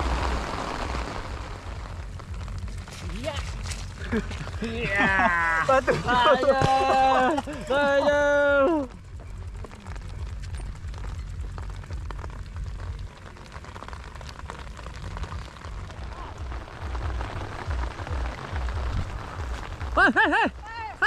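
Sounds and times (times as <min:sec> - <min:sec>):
bike tyres hissing over stones: 0:00.0 - 0:21.0
wind rumble on microphone: 0:00.0 - 0:21.0.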